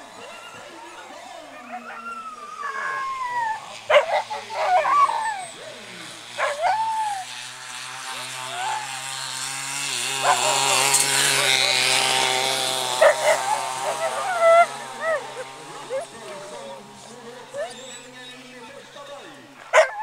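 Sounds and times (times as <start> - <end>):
dogs whining: 0.0 - 7.4, 10.2 - 12.0, 13.0 - 20.0
dogs yelping: 0.0 - 7.4, 10.1 - 19.0, 19.6 - 20.0.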